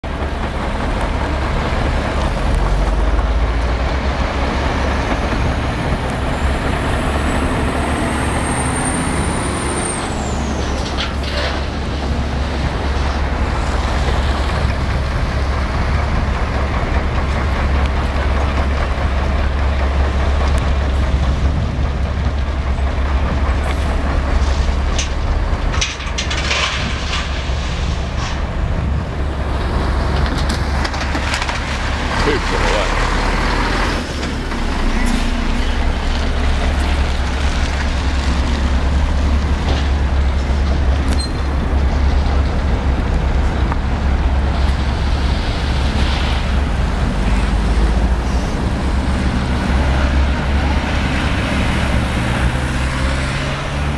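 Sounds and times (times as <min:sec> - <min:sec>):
heavy diesel machinery: 0:00.0 - 0:53.9
road traffic: 0:00.0 - 0:53.9.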